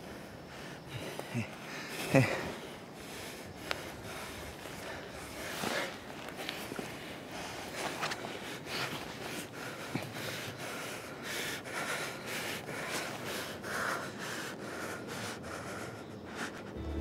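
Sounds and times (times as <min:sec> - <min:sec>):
people breathing heavily: 0:00.0 - 0:17.0.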